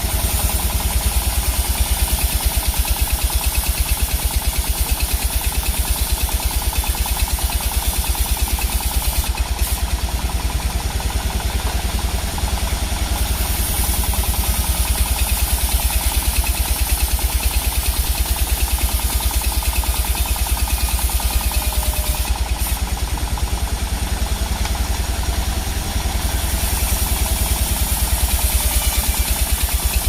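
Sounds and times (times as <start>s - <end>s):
sawmill machinery throbbing: 0.0s - 30.0s.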